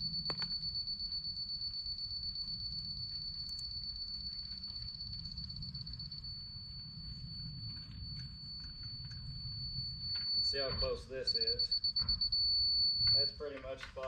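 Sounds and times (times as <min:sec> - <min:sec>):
low rumble: 0:00.0 - 0:13.1
high rapid beeping: 0:00.0 - 0:13.5.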